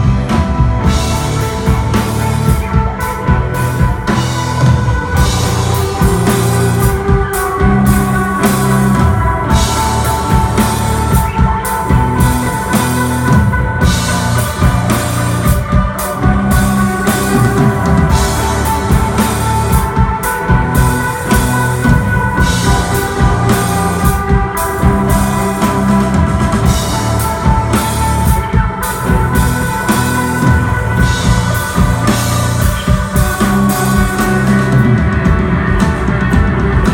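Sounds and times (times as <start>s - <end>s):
bass line: 0.0s - 36.9s
drum kit with cymbal hits: 0.0s - 36.9s
electric guitar sustained notes: 0.0s - 36.9s.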